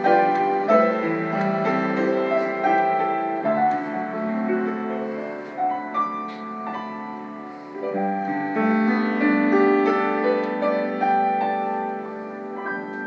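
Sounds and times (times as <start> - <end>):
grand piano piece: 0.0 - 13.0.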